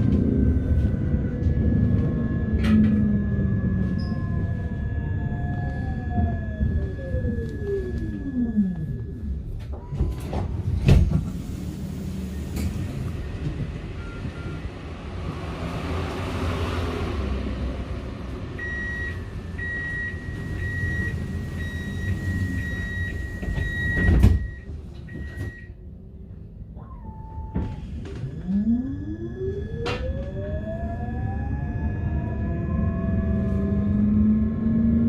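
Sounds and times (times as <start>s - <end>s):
tram low rumble: 0.0s - 35.0s.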